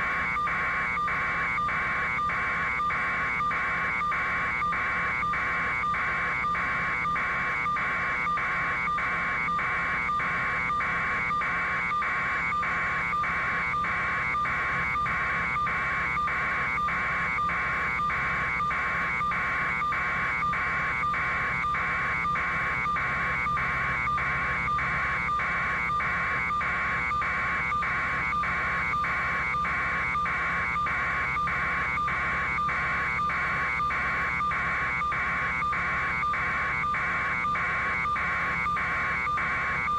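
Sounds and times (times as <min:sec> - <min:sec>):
electronic alarm buzzing: 0:00.0 - 0:39.9.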